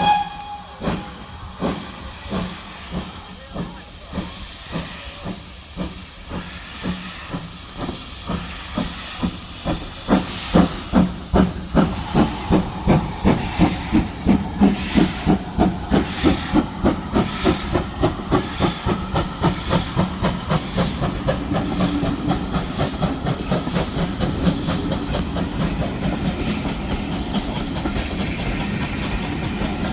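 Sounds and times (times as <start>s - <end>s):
steam hissing: 0.0s - 29.9s
steam locomotive exhaust beats: 0.0s - 29.9s.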